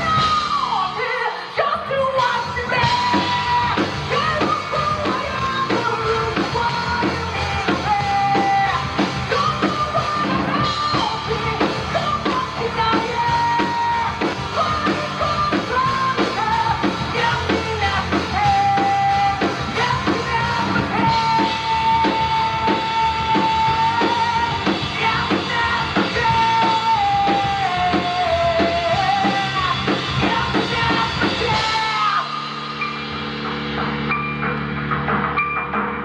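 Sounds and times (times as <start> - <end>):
drum kit beat: 0.0 - 0.9, 2.2 - 36.0
live rock band: 0.0 - 36.0.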